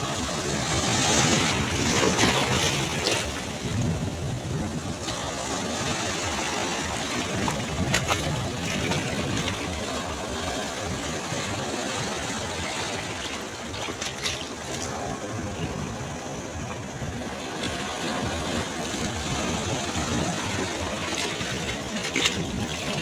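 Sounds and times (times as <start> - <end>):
waves breaking on shore: 0.0 - 23.0.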